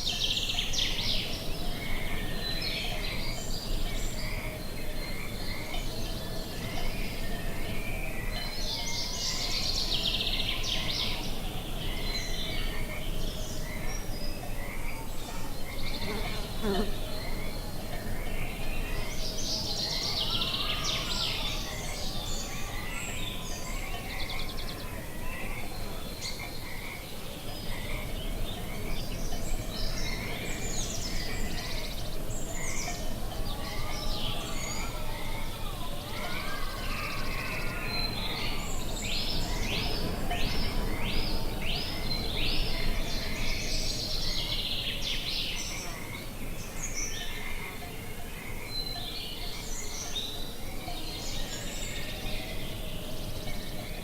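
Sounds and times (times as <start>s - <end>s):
birds chirping and calling: 0.0s - 54.0s.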